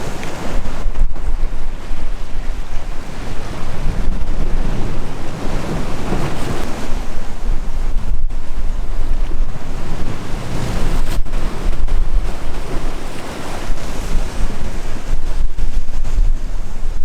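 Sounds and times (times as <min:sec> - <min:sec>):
waves breaking: 0:00.0 - 0:17.0
wind buffeting microphone: 0:00.0 - 0:17.0.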